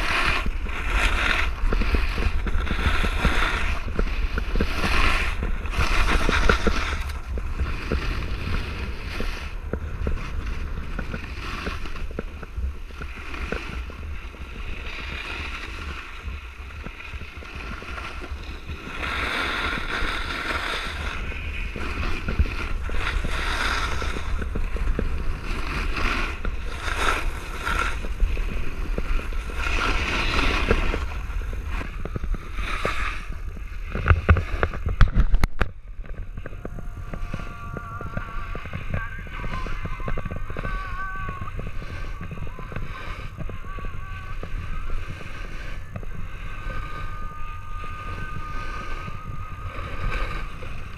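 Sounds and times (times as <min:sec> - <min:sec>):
snowboard scraping on snow: 0:00.0 - 0:50.9
wind rushing over microphone: 0:00.0 - 0:50.9.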